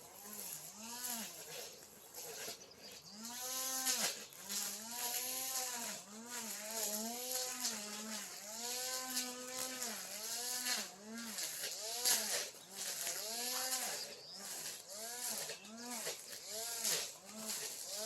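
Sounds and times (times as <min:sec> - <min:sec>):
brush cutter cutting grass: 0:00.0 - 0:18.0.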